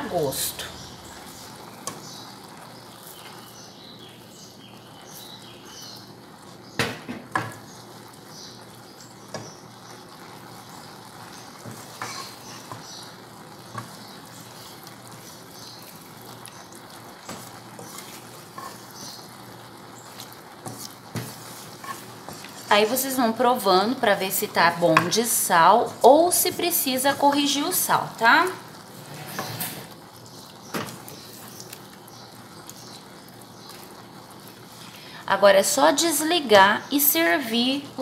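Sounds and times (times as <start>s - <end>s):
wooden spoon stirring in pot: 0.0s - 36.3s
sauce cooking hiss: 0.0s - 38.0s.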